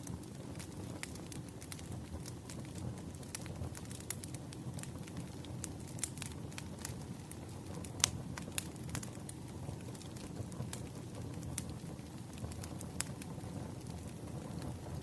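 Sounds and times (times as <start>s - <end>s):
low rumble of burning logs: 0.0s - 15.0s
wood fire crackling: 0.0s - 15.0s.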